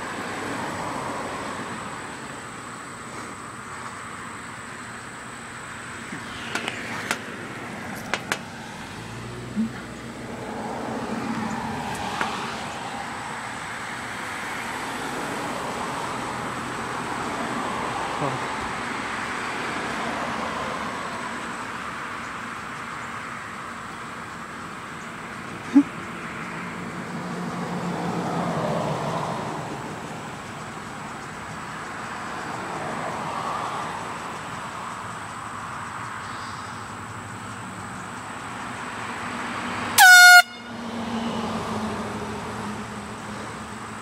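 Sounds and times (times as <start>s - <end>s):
outdoor background noise: 0.0s - 44.0s
passing vehicle: 0.0s - 44.0s.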